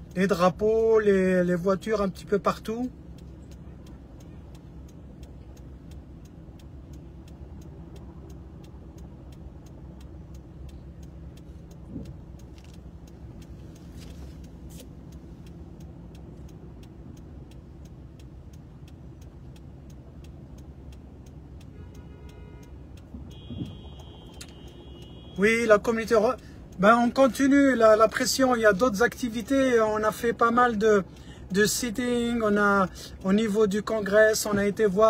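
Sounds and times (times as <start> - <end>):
car idling low rumble: 0.0 - 35.0
faint even ticking: 0.0 - 35.0.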